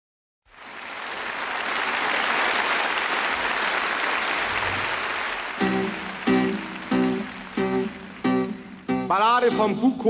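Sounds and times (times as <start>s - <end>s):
audience applauding: 0.5s - 8.9s.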